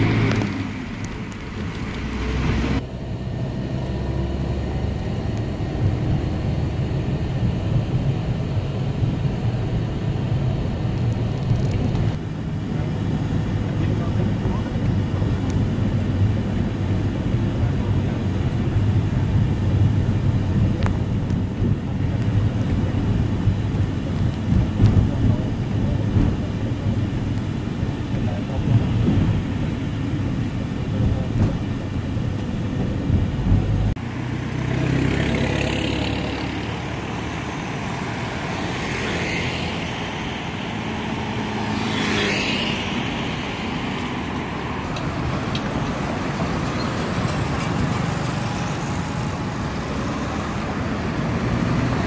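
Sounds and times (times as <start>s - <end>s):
cars passing: 0.0s - 52.0s
van engine rumble: 0.0s - 52.0s.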